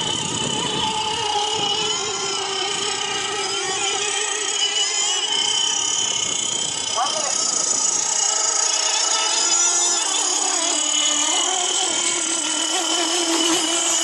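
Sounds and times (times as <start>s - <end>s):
racing boat motor whine: 0.0s - 14.0s.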